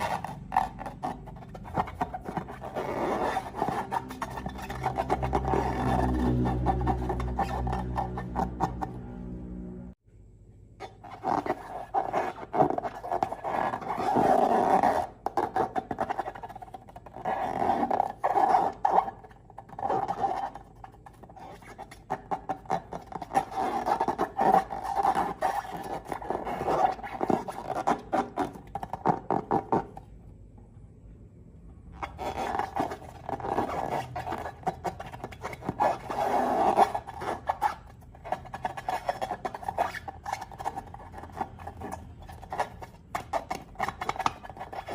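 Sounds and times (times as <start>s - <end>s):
balloon rubbing growl: 0.0s - 9.2s, 11.0s - 30.0s, 32.0s - 44.9s.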